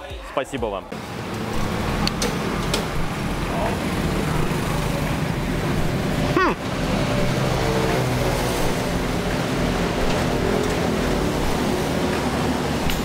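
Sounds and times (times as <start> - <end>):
highway traffic: 0.6 - 13.0.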